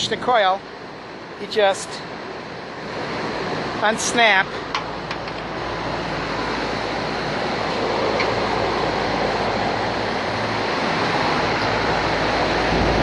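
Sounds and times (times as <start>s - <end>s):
fan air rushing: 0.0s - 13.0s.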